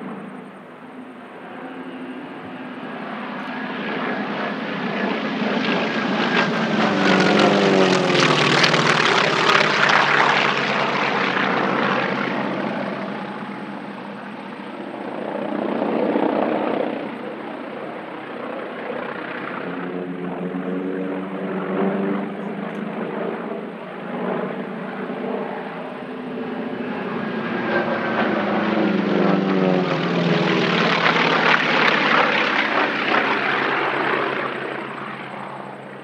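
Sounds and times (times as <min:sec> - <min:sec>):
propeller planes droning past: 0:00.0 - 0:36.0.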